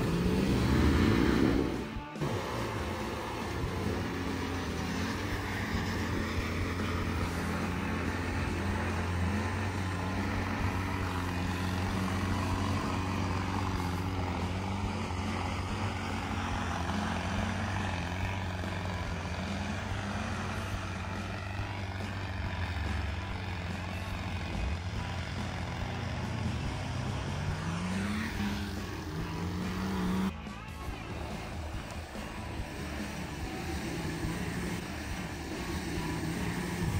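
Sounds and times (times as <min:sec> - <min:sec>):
engine revving: 0:00.0 - 0:36.9
off-road vehicle engines droning: 0:00.0 - 0:36.9.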